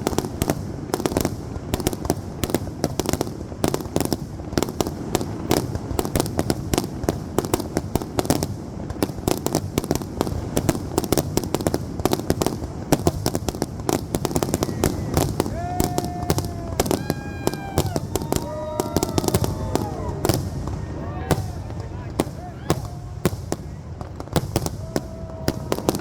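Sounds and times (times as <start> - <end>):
fireworks bangs and cracks: 0.0 - 26.0.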